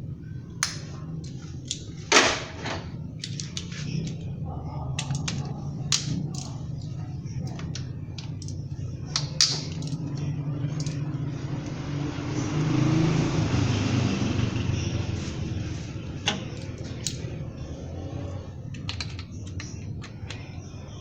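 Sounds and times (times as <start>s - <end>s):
car engine running: 1.0s - 21.0s.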